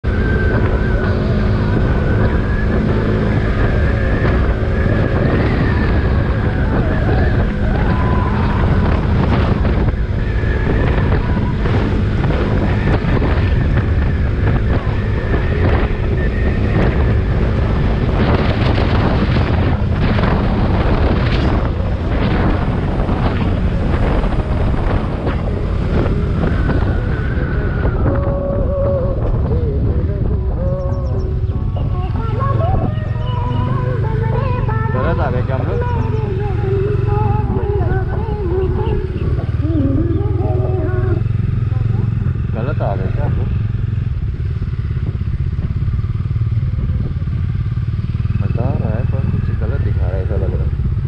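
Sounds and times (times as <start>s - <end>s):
motorcycle running: 0.0s - 51.0s
wind buffeting microphone: 0.0s - 51.0s.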